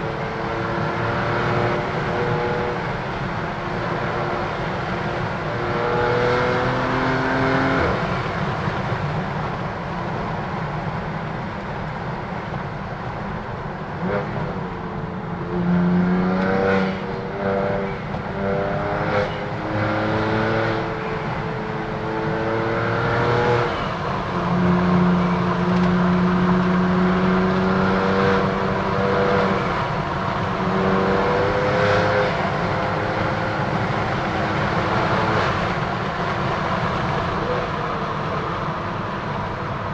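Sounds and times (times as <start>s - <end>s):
car engine accelerating through gears: 0.0s - 8.9s, 15.4s - 39.9s.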